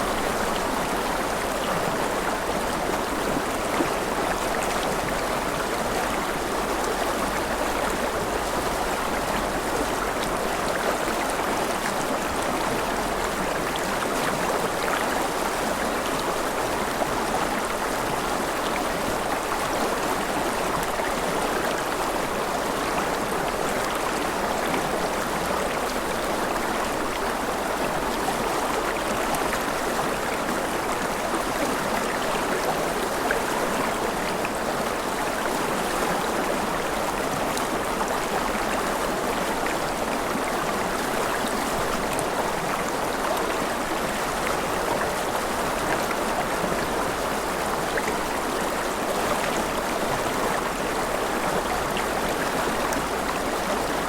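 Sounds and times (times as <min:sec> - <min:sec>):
gentle rain: 0:00.0 - 0:54.0.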